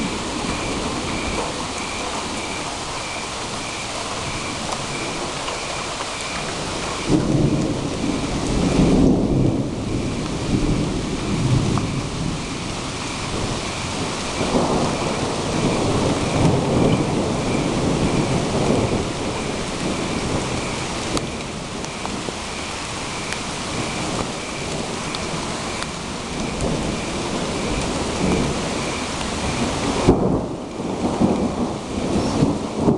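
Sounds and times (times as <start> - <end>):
steady rain: 0.0 - 32.9
thunder rumbling: 0.0 - 32.9.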